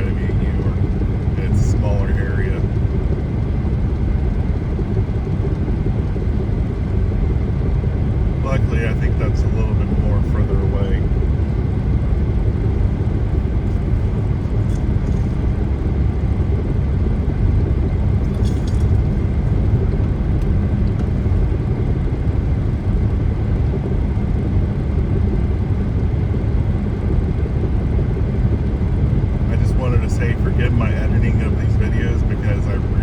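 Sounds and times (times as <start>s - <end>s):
car tyres and engine rumble: 0.0s - 33.0s.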